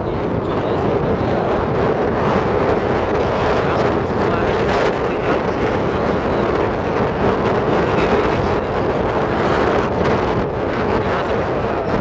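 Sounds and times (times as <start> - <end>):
vehicle road noise: 0.0 - 12.0
wind rush over microphone: 0.0 - 12.0.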